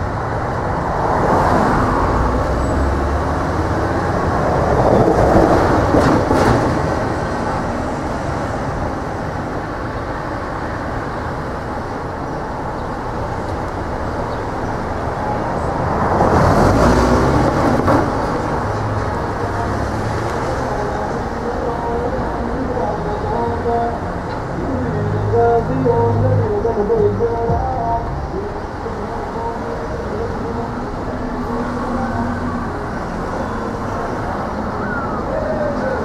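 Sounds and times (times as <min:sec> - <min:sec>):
cars passing: 0:00.0 - 0:36.0
elevated train running overhead: 0:00.0 - 0:36.0.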